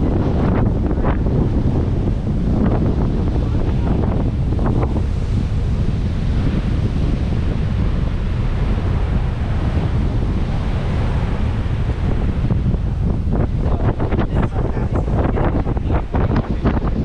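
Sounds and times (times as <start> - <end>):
storm surf crashing: 0.0 - 17.0
wind buffeting microphone: 0.0 - 17.0.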